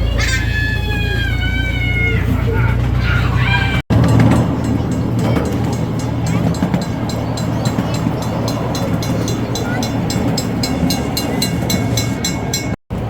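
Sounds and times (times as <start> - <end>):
miniature train rumbling on track: 0.0 - 13.0.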